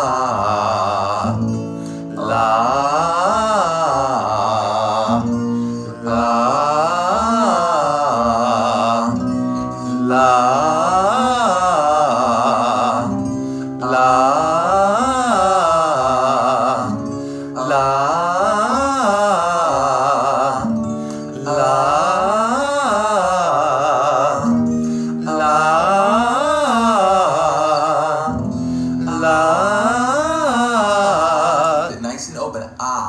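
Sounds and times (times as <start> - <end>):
held accompanying chord: 0.0 - 32.2
person singing vocal warm-up: 0.0 - 33.0.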